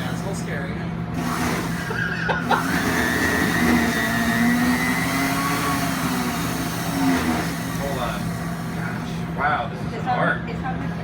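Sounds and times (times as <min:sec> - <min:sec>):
mixer motor whirring: 0:00.0 - 0:09.7.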